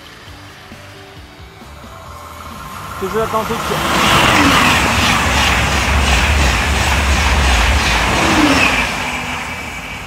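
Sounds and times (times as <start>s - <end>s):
high-speed train passing: 0.0s - 10.0s.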